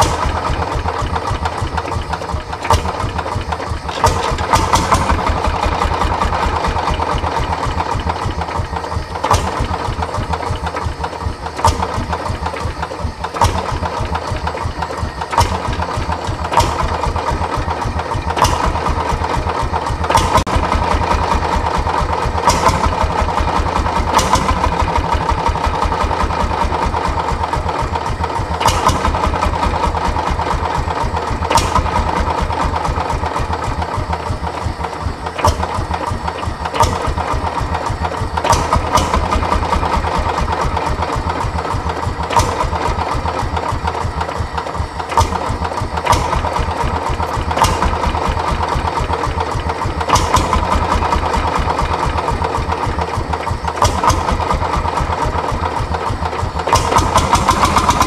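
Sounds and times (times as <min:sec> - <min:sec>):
engine bang: 0:00.0 - 0:58.0
tractor engine idling with thudding: 0:00.0 - 0:58.0.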